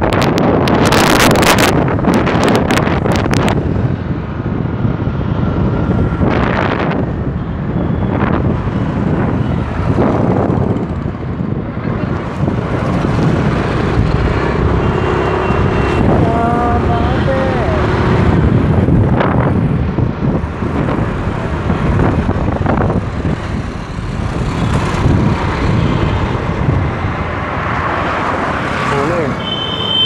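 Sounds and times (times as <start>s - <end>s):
wind buffeting microphone: 0.0s - 29.4s
road and traffic noise: 0.0s - 30.0s.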